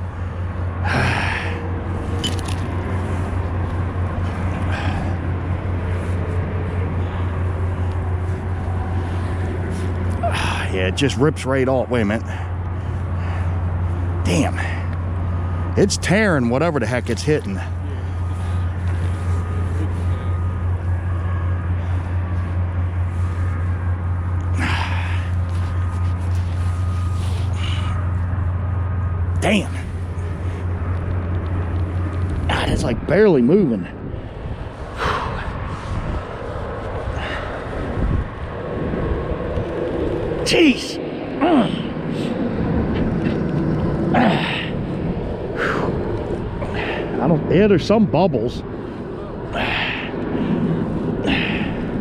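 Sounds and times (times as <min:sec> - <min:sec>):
low engine drone: 0:00.0 - 0:52.0.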